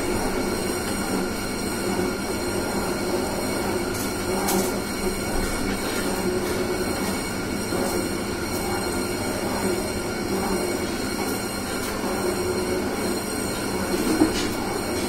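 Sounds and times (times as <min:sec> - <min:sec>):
machine humming and whining: 0:00.0 - 0:15.0.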